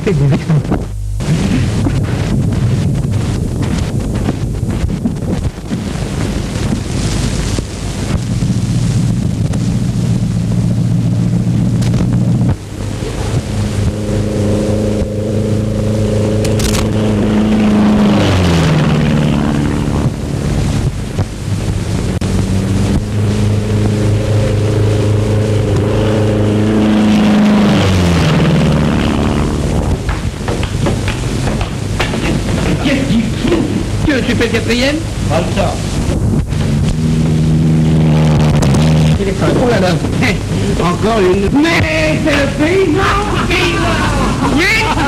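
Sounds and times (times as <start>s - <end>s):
film soundtrack hiss: 0.0s - 45.0s
propeller aircraft engine droning: 0.0s - 45.0s.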